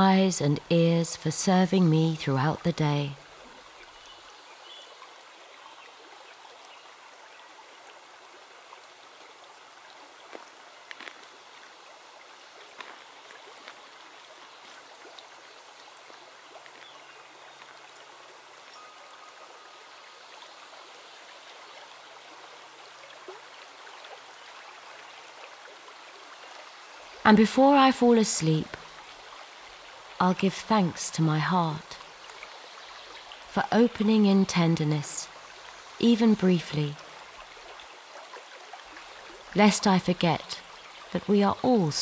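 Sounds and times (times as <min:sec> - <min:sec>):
small stream running: 0:00.0 - 0:42.0.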